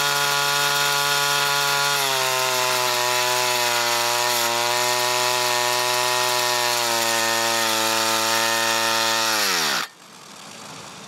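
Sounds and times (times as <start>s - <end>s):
string trimmer engine running: 0.0s - 10.0s.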